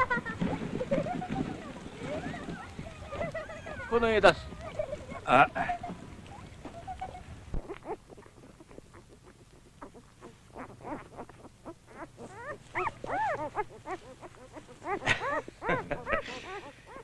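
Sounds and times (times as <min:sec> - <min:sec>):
puppies squeaking and whimpering: 0:00.0 - 0:17.0.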